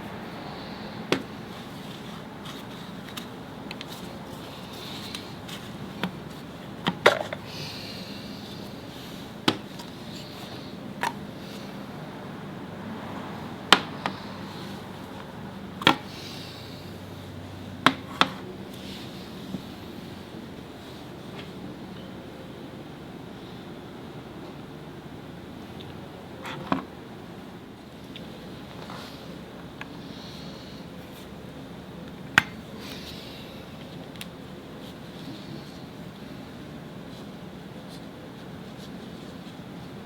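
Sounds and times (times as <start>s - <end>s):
low workshop hum: 0.0s - 40.0s.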